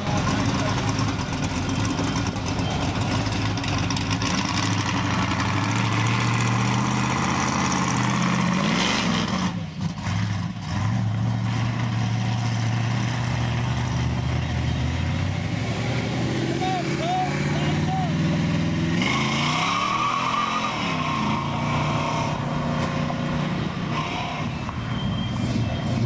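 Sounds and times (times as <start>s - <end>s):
car engine rumbling passing: 0.0s - 26.0s.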